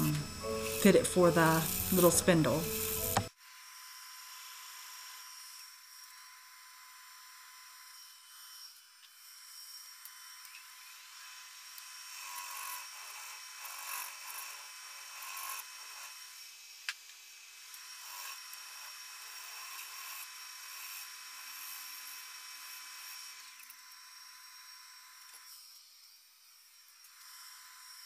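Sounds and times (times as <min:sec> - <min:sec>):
wood lathe whining: 0:00.0 - 0:28.0.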